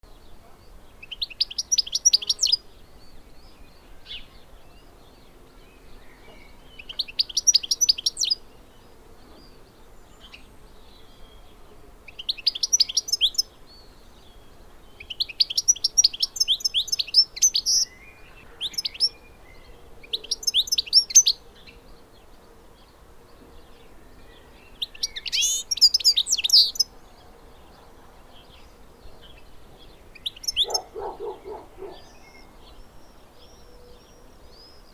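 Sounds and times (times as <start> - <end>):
finch twittering song: 0.1 - 34.9.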